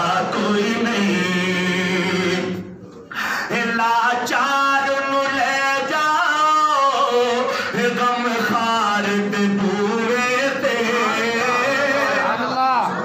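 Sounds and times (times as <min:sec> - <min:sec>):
man singing into a microphone: 0:00.0 - 0:12.6.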